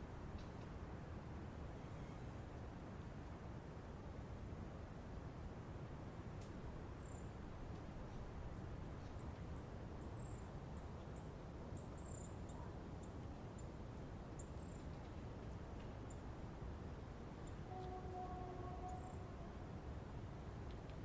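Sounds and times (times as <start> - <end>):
wind through trees: 0.0 - 21.0.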